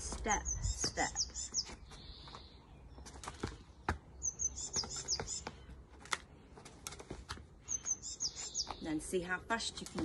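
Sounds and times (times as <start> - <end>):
songbird chirping trills: 0.0 - 5.9, 7.6 - 10.0.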